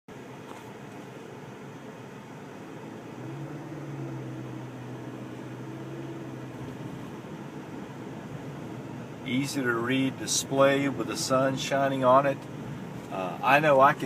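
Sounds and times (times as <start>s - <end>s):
car engine and road noise: 0.1s - 14.0s
low hum: 0.8s - 14.0s.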